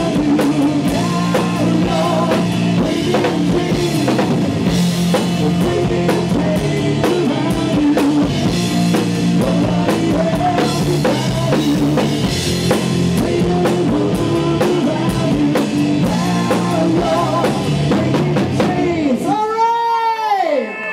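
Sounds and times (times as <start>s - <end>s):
electric guitar: 0.0s - 19.3s
drum kit with cymbals: 0.0s - 19.4s
bass guitar: 0.0s - 19.5s.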